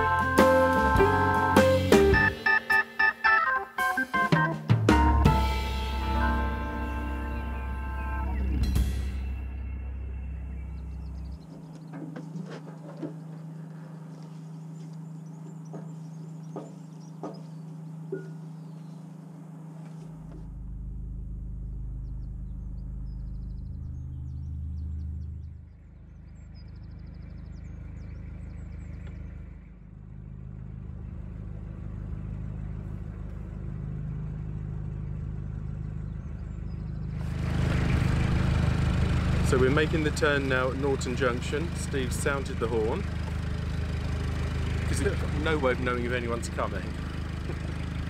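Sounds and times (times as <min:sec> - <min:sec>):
boat diesel engine running: 0:00.0 - 0:02.6, 0:05.0 - 0:48.0.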